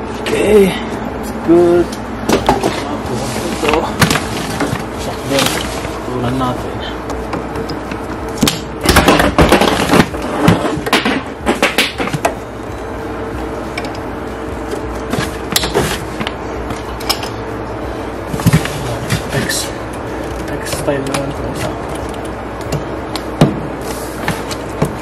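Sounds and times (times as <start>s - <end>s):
steady faint hum: 0.0s - 25.0s.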